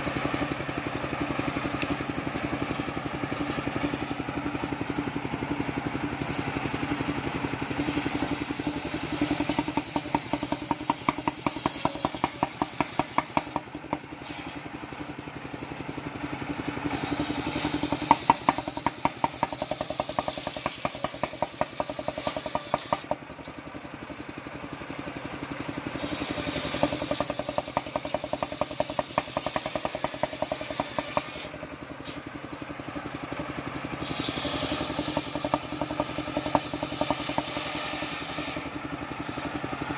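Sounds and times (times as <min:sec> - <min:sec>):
saw blade cutting logs: 0:00.0 - 0:15.0, 0:16.6 - 0:23.6, 0:25.8 - 0:32.3, 0:33.9 - 0:39.9
sawmill engine running: 0:00.0 - 0:39.9.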